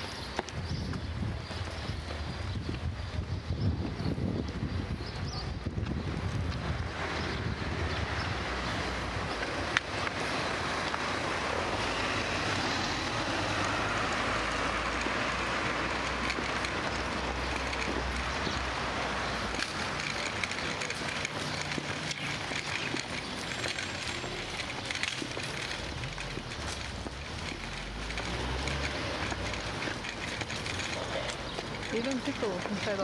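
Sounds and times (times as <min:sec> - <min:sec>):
city street noise: 0:00.0 - 0:33.0.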